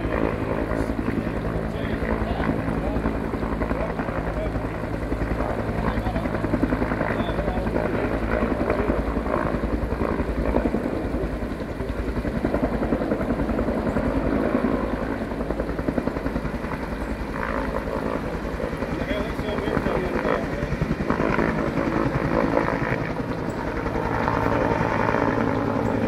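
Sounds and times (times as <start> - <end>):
helicopter rotor thumping: 0.0 - 26.0.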